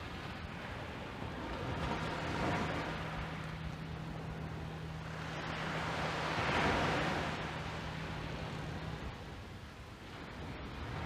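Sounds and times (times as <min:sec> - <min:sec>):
low steady hum: 0:00.0 - 0:11.0
small waves washing on beach: 0:00.0 - 0:11.0.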